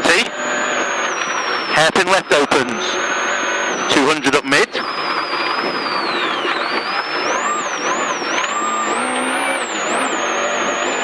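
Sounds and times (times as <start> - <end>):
car engine at high revs: 0.0 - 11.0
high wavering whine: 0.0 - 11.0.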